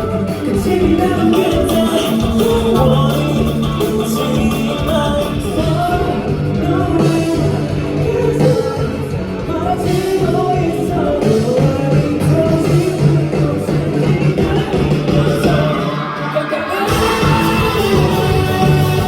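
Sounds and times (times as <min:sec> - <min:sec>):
rock band music with singer: 0:00.0 - 0:19.0.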